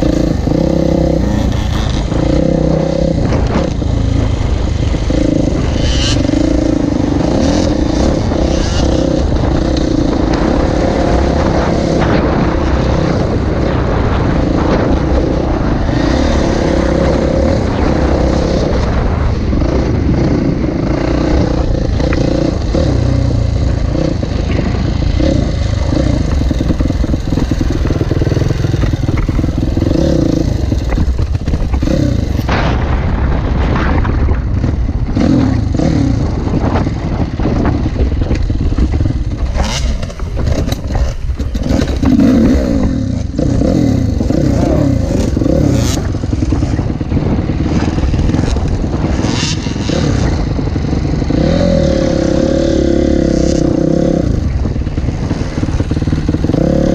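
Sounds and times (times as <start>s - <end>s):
dirt bike engine revving: 0.0s - 32.9s, 33.6s - 56.9s.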